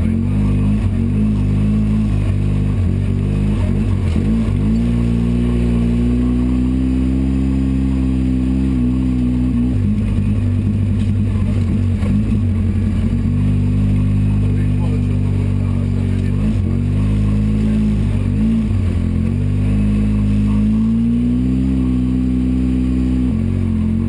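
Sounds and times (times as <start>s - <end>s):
engine running under throttle: 0.0s - 24.0s.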